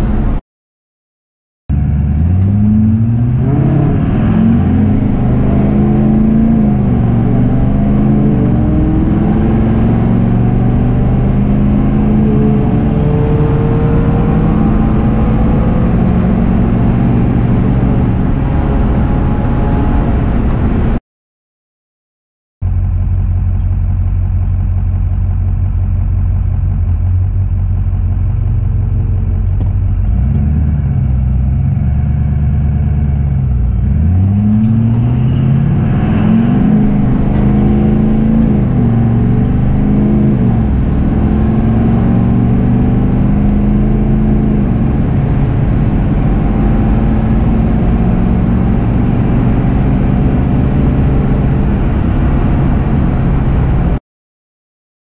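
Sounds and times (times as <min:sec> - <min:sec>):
pickup truck engine revving: 0:01.7 - 0:21.0, 0:26.3 - 0:54.0.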